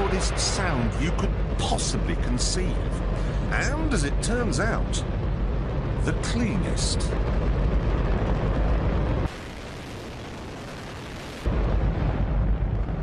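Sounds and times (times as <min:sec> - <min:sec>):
rocket engine roaring: 0:00.0 - 0:13.0.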